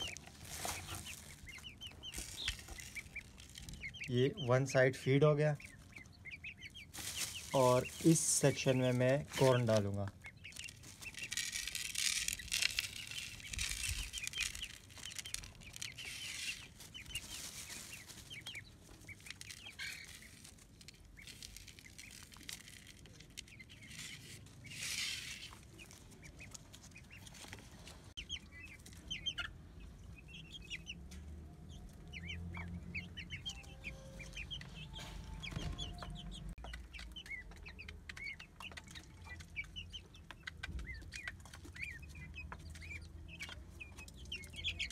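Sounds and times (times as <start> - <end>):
young chickens clucking and peeping: 0.0 - 44.9.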